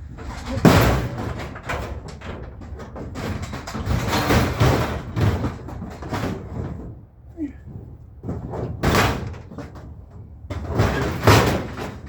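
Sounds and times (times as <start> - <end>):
scrap metal scraping and clattering: 0.0 - 12.0.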